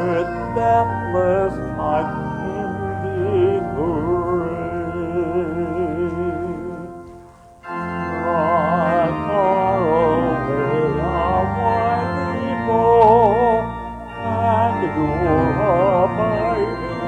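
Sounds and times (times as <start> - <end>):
organ chords: 0.0 - 17.0
voices singing a hymn: 0.0 - 17.0.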